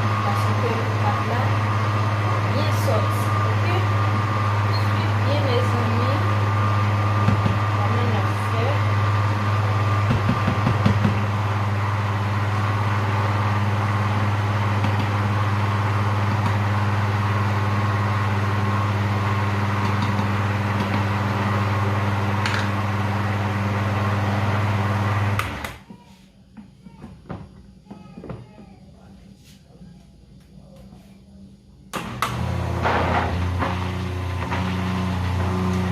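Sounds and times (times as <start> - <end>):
blender motor running: 0.0 - 25.8, 32.0 - 35.9.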